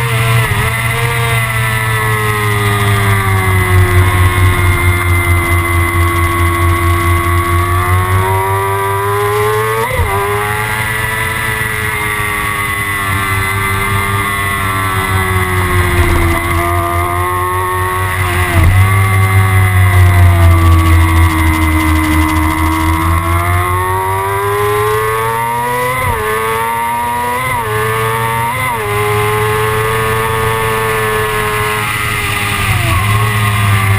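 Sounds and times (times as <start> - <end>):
motorcycle engine at high revs: 0.0 - 33.9.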